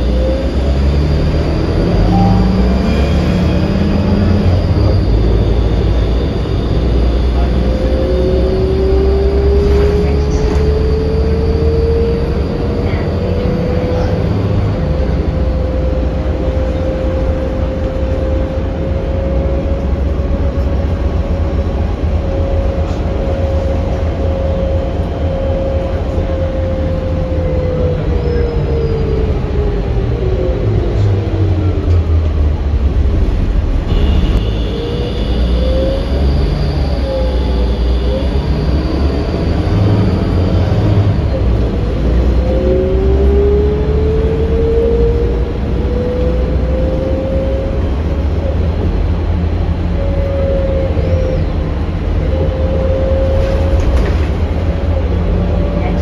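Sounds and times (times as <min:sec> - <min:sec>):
bus engine and road rumble: 0:00.0 - 0:56.0
drivetrain whine: 0:00.0 - 0:56.0.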